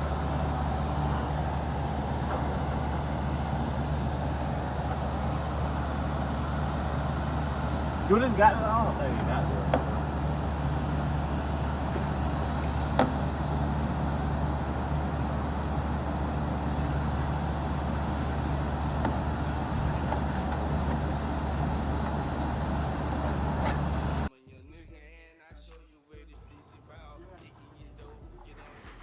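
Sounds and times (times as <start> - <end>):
low mechanical hum: 0.0 - 24.3.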